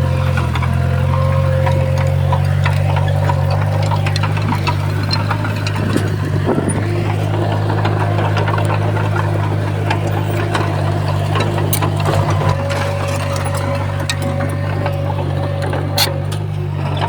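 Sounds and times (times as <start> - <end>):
bulldozer diesel engine running: 0.0 - 17.0
clicks and clanks: 0.0 - 17.0.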